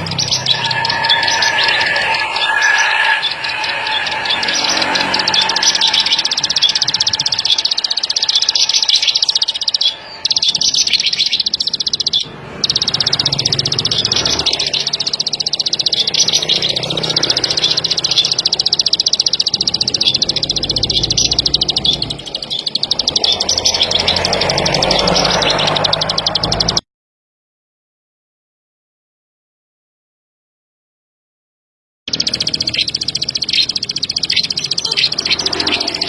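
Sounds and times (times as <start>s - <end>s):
bird trilling high clicking notes: 0.0s - 26.8s, 32.1s - 36.0s.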